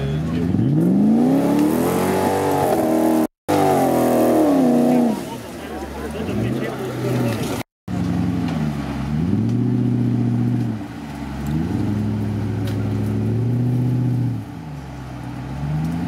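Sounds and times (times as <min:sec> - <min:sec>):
off-road engine revving hard: 0:00.0 - 0:05.5, 0:06.2 - 0:16.0.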